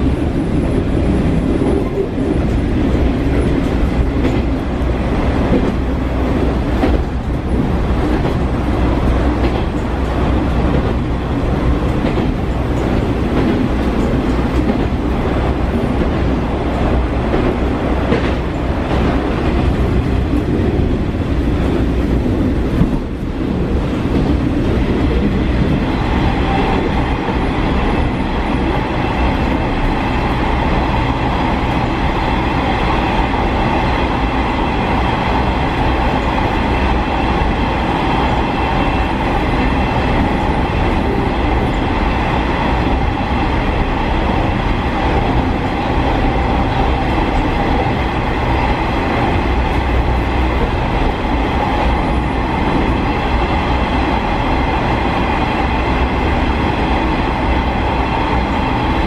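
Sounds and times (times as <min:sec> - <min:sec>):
diesel railcar engine rumble: 0:00.0 - 0:59.0.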